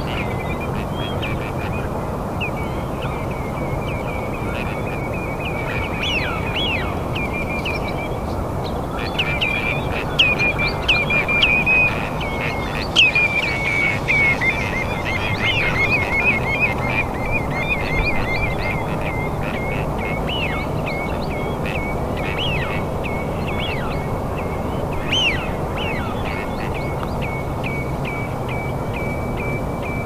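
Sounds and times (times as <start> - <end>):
low rushing background: 0.0 - 30.0
songbird chirping: 0.0 - 30.0.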